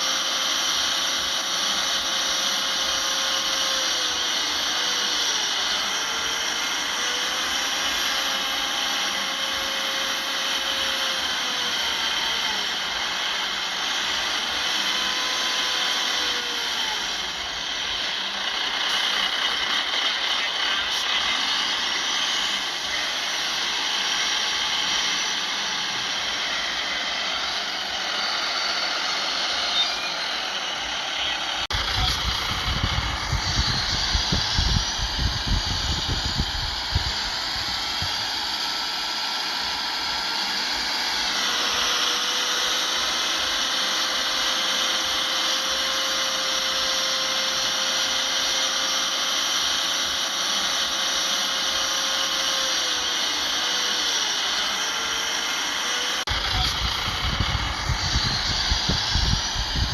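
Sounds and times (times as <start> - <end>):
faint rising and falling whines: 0.0 - 48.7, 50.0 - 59.9
heavy earthmoving machinery running: 0.0 - 59.9.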